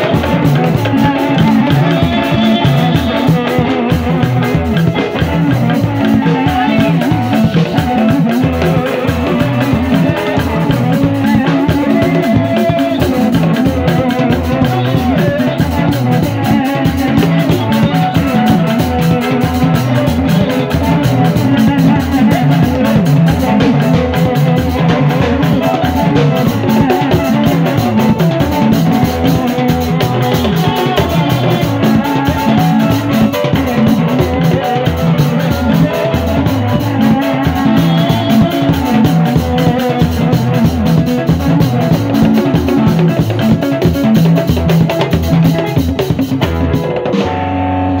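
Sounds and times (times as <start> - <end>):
hand drums: 0.0 - 47.5
drum kit played with sticks: 0.0 - 48.0.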